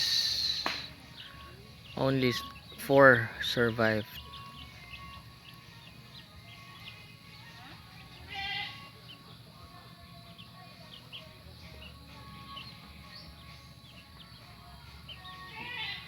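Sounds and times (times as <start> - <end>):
chicks peeping: 0.0 - 16.0
faint background music: 0.0 - 16.0.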